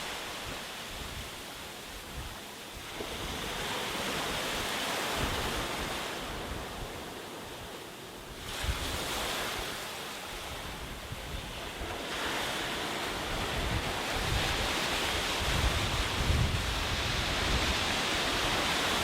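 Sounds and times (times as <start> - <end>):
waves breaking on a beach: 0.0 - 19.0
wind rumble on microphone: 0.0 - 19.0.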